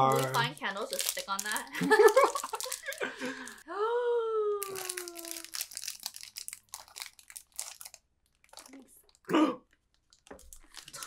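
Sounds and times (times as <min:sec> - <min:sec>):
wrapper crinkling: 0:00.0 - 0:03.6, 0:04.6 - 0:09.2, 0:09.8 - 0:11.0.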